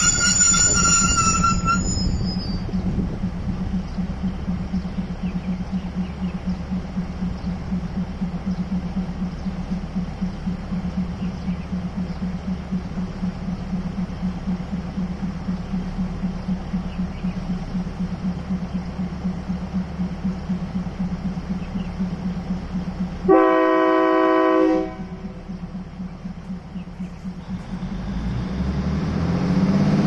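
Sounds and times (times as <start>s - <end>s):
train diesel engine idling: 0.0s - 29.7s.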